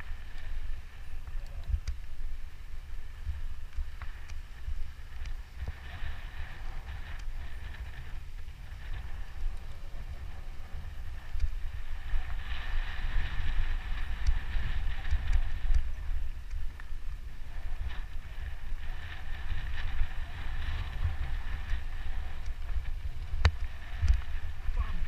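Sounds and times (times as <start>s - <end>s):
bike clicks and rattles: 0.0s - 25.0s
bike tyre noise: 0.0s - 25.0s
wind buffeting microphone: 0.0s - 25.0s.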